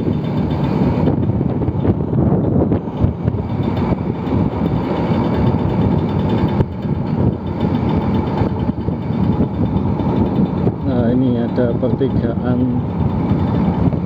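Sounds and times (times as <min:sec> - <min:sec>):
road noise: 0:00.0 - 0:14.0
scooter engine running: 0:00.0 - 0:14.0.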